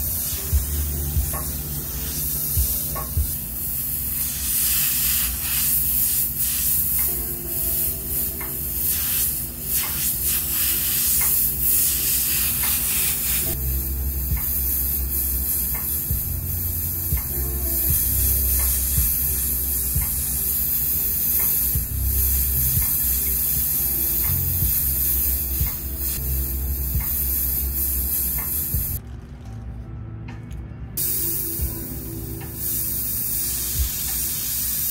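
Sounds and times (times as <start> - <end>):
airbrush hissing: 0.0 - 29.0, 31.0 - 34.9.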